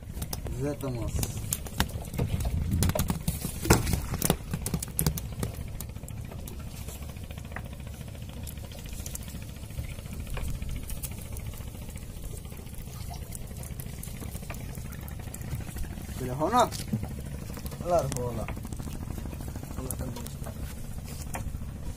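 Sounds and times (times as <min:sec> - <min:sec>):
fish flapping on wooden deck: 0:00.0 - 0:21.9
steady low rumble: 0:00.0 - 0:21.9.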